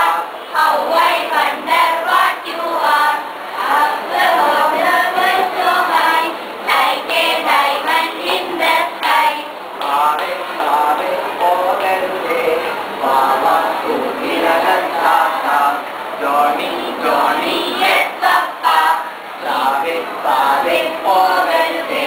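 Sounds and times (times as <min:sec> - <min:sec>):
children singing in chorus: 0:00.0 - 0:22.0.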